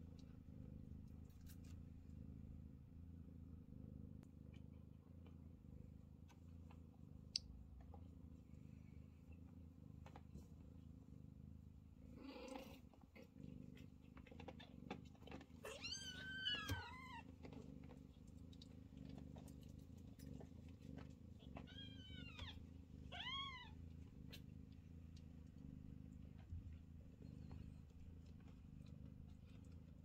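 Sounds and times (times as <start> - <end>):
cats purring: 0.0 - 30.0.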